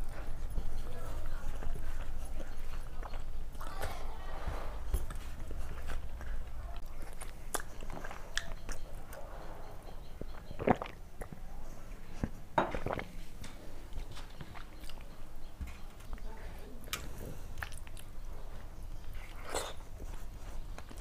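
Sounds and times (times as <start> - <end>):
wet chewing: 0.0 - 21.0.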